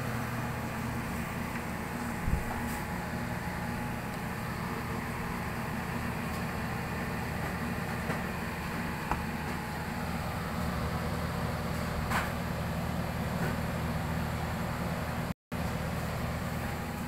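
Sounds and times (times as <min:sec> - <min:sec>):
ice maker humming: 0:00.0 - 0:17.0.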